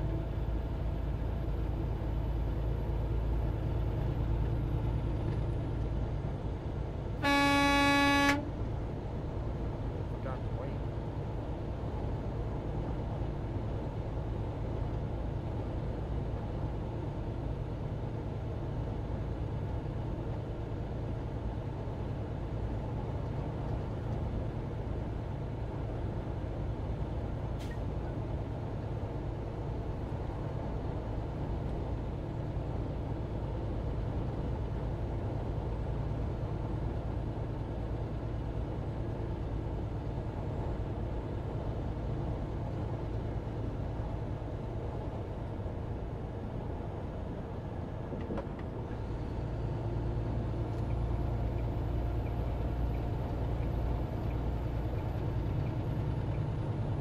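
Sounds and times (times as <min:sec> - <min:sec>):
truck engine and tyres droning: 0:00.0 - 0:57.0.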